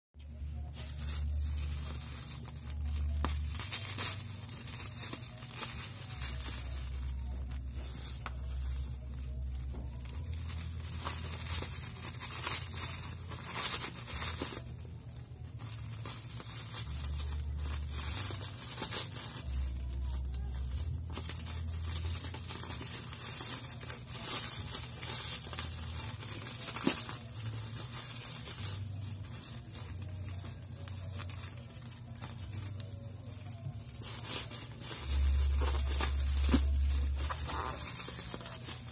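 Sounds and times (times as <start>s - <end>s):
plastic wrap crinkling and tearing: 0.2s - 38.9s.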